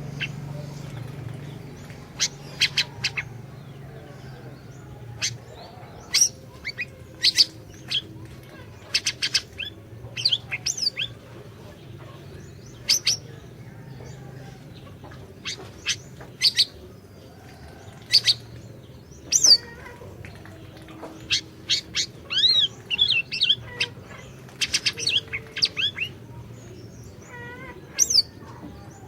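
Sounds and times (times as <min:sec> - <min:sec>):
songbird chirping and whistling: 0:00.0 - 0:08.1, 0:08.9 - 0:11.2, 0:12.0 - 0:29.0.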